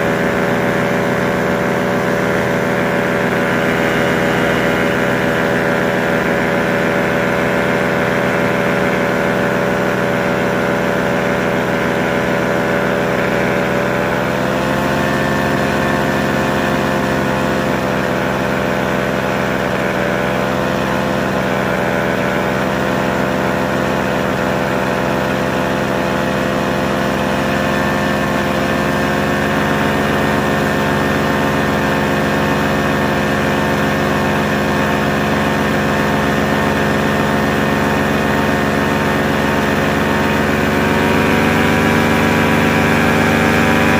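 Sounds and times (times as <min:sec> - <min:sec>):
paramotor engine drone: 0:00.0 - 0:43.9.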